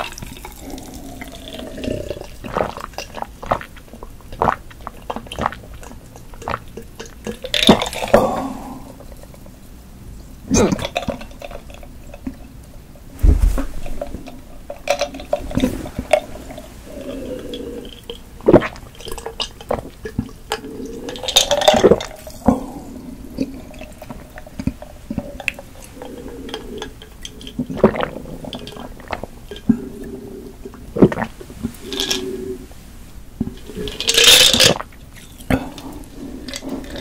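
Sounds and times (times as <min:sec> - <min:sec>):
gulping and swallowing drink: 0:00.0 - 0:09.5, 0:10.5 - 0:12.9, 0:13.8 - 0:32.7, 0:33.4 - 0:37.0.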